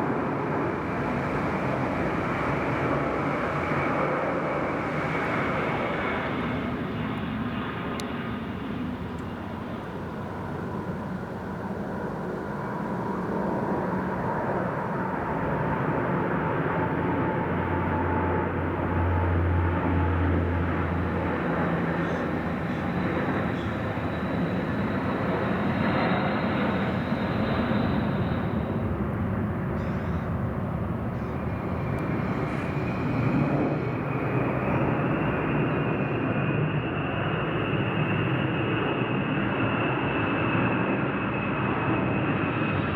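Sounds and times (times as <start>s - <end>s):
aircraft engine noise: 0.0s - 42.9s.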